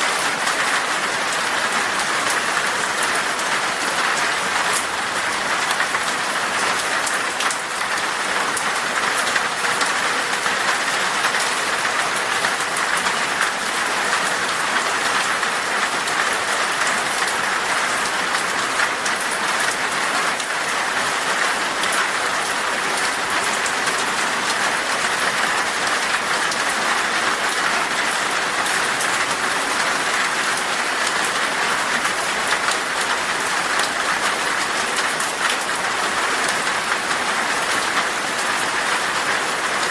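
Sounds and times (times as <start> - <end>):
heavy rain on glass: 0.1 - 39.9.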